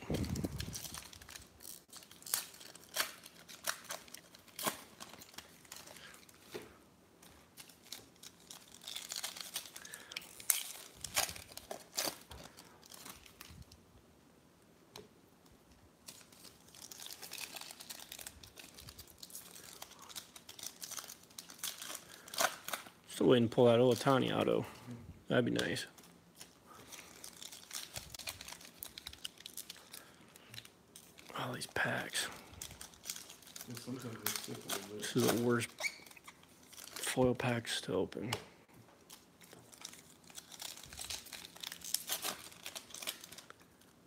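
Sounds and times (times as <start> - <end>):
foil wrappers tearing and crinkling: 0.0 - 6.6, 7.2 - 13.8, 16.0 - 24.4, 25.6 - 37.8, 39.0 - 44.0.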